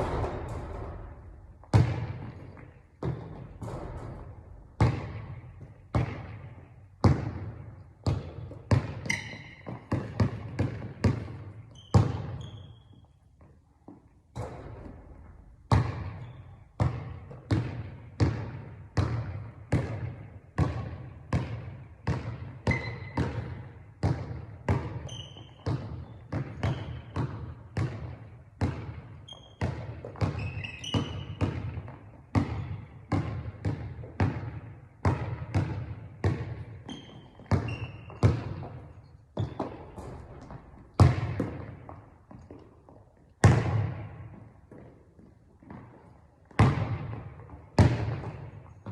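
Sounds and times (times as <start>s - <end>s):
basketball bouncing: 0.0s - 12.9s, 13.8s - 48.9s.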